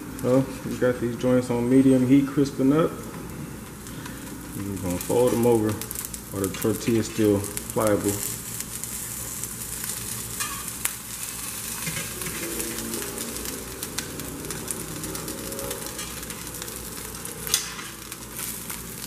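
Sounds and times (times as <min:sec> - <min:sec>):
tortillas sizzling in oil: 0:00.0 - 0:19.0.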